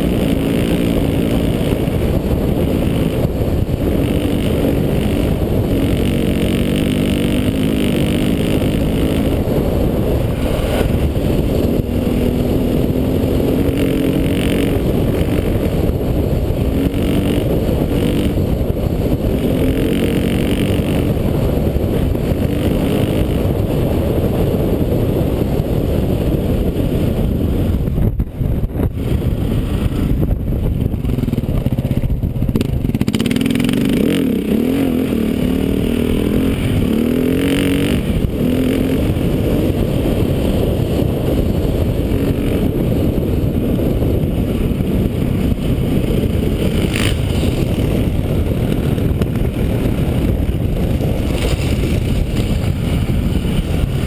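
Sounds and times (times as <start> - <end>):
dirt bike engine revving: 0.0 - 27.3, 30.9 - 54.0
wind on microphone: 0.0 - 54.0.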